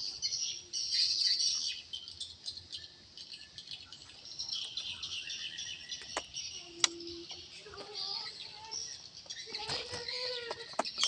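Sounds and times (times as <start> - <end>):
insects chirping: 0.0 - 11.0
small birds chirping: 0.0 - 11.0.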